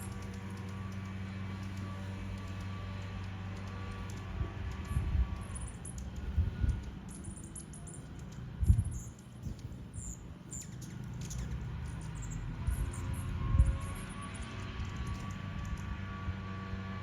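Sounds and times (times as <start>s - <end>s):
low rumbles: 0.0s - 16.4s
hummingbirds chipping: 0.0s - 16.8s
steady low hum: 0.0s - 17.0s.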